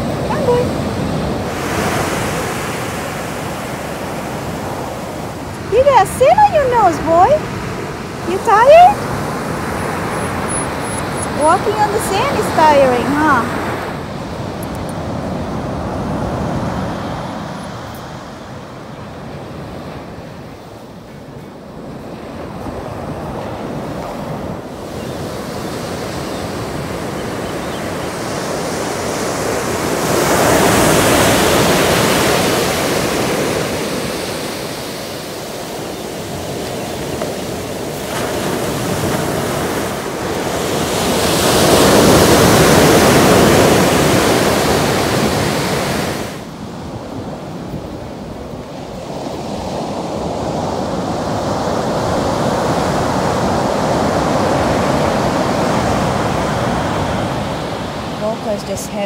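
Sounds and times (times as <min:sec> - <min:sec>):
surf breaking on a beach: 0:00.0 - 0:59.0.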